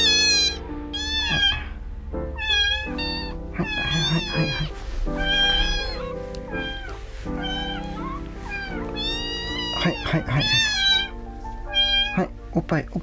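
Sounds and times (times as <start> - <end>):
kitten meowing: 0.0 - 12.3
background music: 0.0 - 13.0.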